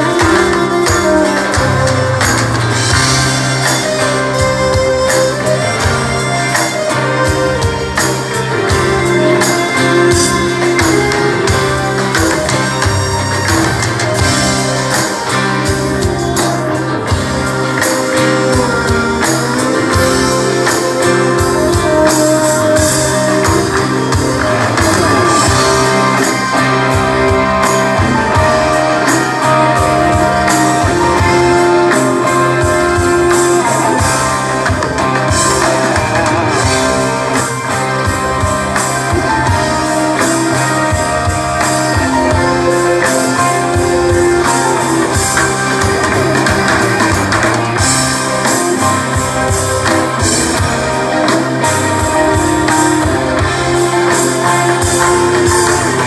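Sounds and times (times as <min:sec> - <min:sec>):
drums: 0:00.0 - 0:56.0
electric guitar melody: 0:00.0 - 0:56.0
keyboards: 0:00.0 - 0:56.0.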